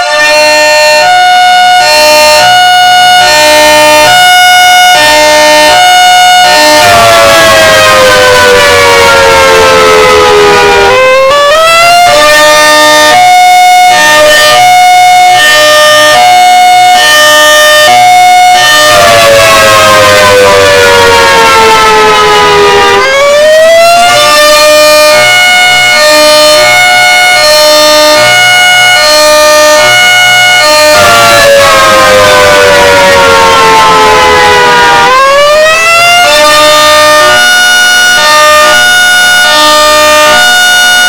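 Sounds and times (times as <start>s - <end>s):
warning siren hi-lo: 0.0s - 41.0s.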